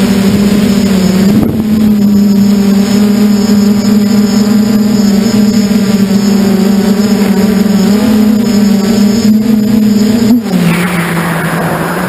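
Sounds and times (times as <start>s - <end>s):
model aircraft motor drone: 0.0s - 12.0s.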